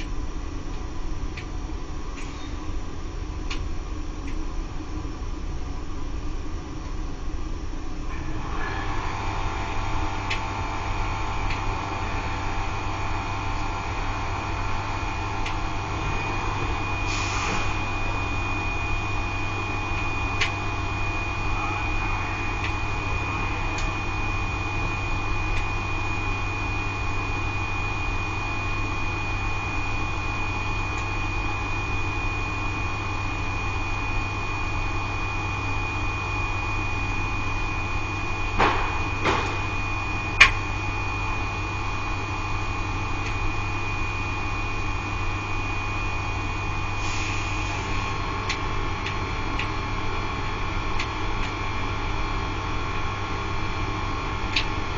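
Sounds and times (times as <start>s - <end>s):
circulation pump humming and whining: 0.0s - 54.9s.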